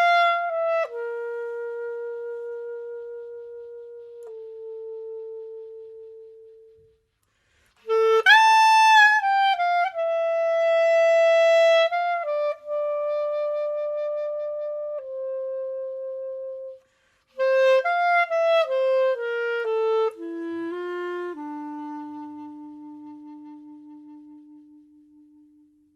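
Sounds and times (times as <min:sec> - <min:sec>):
woodwind melody: 0:00.0 - 0:25.9.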